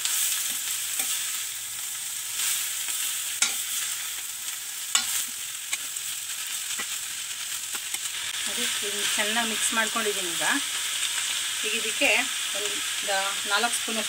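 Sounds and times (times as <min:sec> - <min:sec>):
cabbage sizzling in oil: 0:00.0 - 0:14.0.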